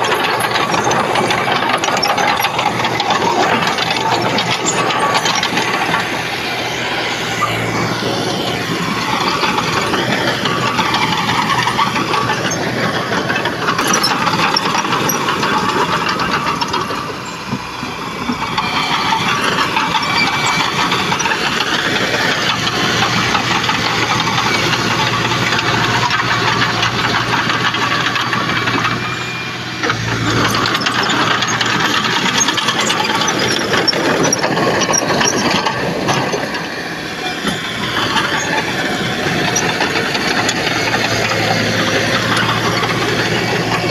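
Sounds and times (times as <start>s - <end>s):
diesel machine engine running: 0.0s - 43.9s
metallic rattling and clanking: 0.0s - 43.9s.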